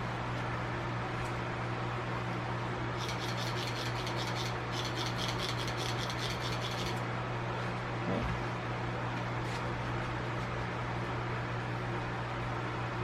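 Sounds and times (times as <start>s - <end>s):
garage fan humming: 0.0s - 13.0s.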